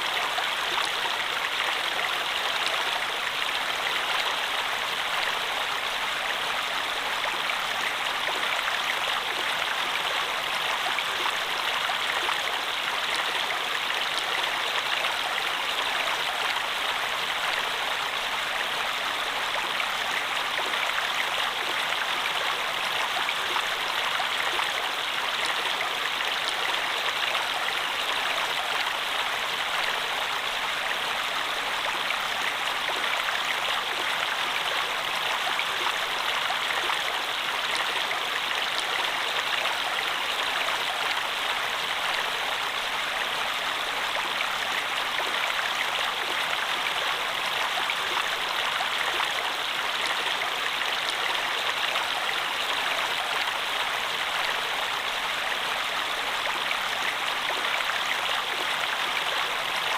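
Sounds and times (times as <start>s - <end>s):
stream water rushing and splashing: 0.0s - 59.9s.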